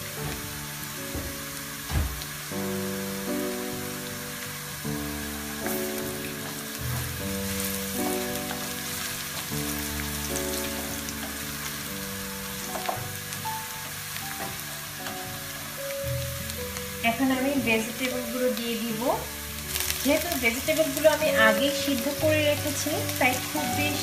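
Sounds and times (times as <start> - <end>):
background music with held notes: 0.0 - 24.0
onions sizzling in oil: 0.0 - 24.0
wooden spatula stirring: 3.0 - 17.0, 18.6 - 24.0.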